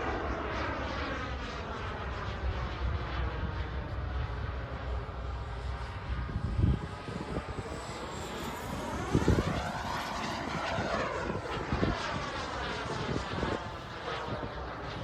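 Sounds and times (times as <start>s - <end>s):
jet turbine rushing: 1.3s - 15.0s.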